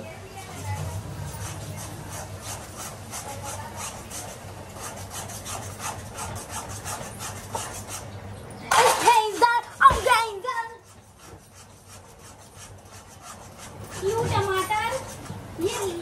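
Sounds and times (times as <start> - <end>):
spatula scraping and stirring food: 0.6 - 16.0.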